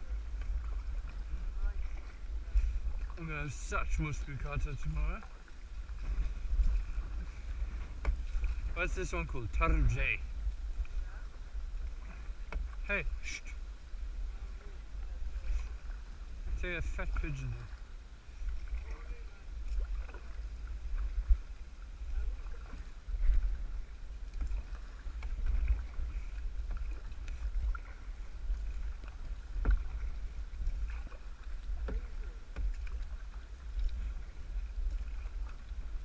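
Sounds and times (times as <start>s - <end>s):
paddle strokes in water: 0.0s - 36.0s
wind rumble on microphone: 0.0s - 36.0s.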